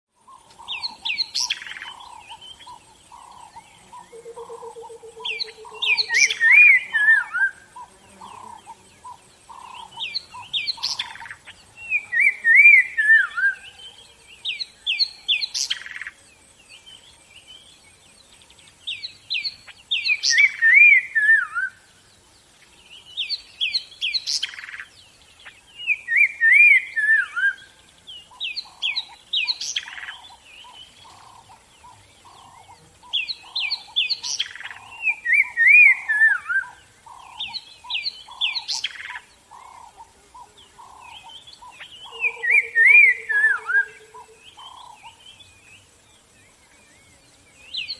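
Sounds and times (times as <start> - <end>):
bird singing loud song phrase: 0.2 - 47.9.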